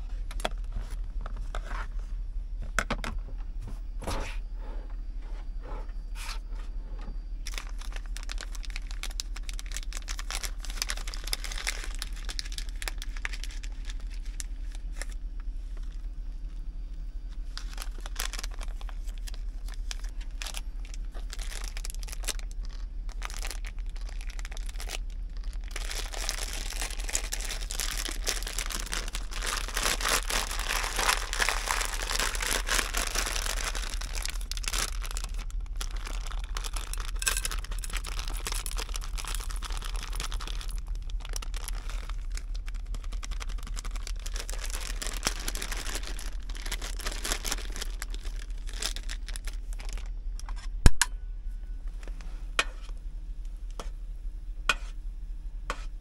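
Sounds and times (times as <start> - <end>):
crinkling and rustling: 0.0 - 50.9
faint steady hum: 0.0 - 56.0.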